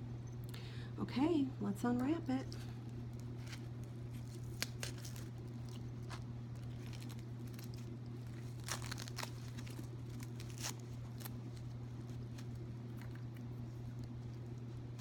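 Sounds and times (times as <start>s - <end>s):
packaging crinkling: 2.5s - 15.0s.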